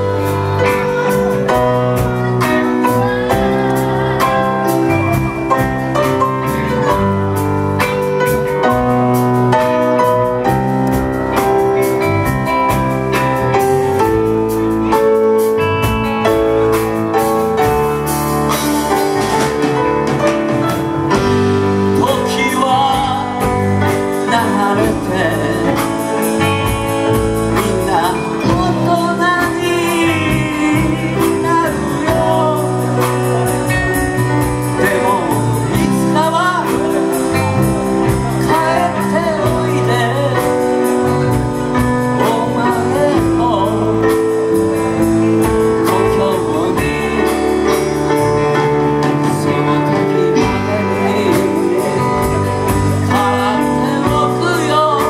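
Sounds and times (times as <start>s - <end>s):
live rock band playing: 0.0s - 55.0s
man singing lead: 0.0s - 55.0s.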